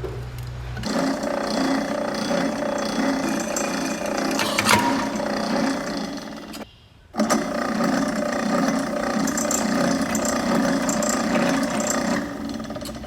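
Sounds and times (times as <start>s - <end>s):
drill press drilling steel: 0.8s - 13.0s.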